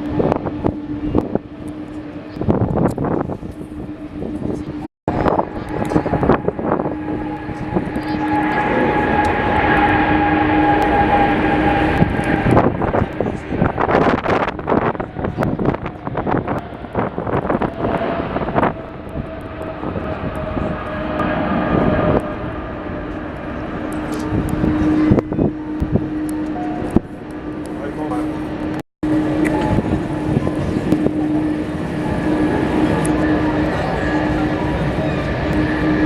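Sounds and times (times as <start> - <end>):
jet engines roaring and whining: 0.0 - 36.0
wind buffeting microphone: 0.0 - 36.0.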